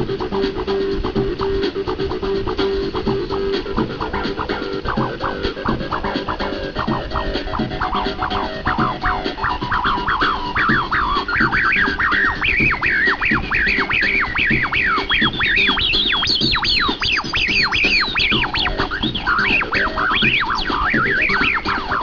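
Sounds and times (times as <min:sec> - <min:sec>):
acid house music: 0:00.0 - 0:22.0
squelchy electronic sweeps: 0:00.0 - 0:22.0.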